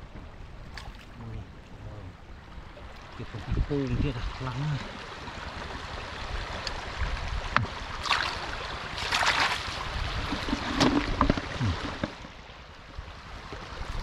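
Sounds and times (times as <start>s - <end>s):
water splashing: 0.1s - 12.6s.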